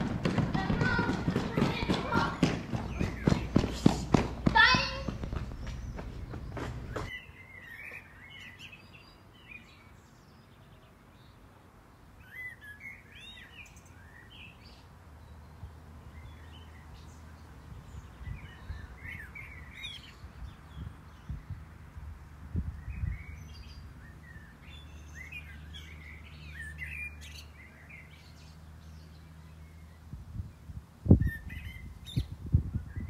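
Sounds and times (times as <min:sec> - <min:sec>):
songbirds chirping and warbling: 0:00.0 - 0:33.0.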